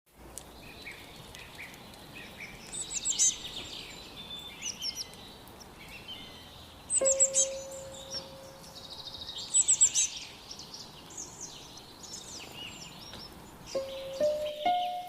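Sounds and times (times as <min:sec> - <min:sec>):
songbirds chirping: 0:00.1 - 0:15.0.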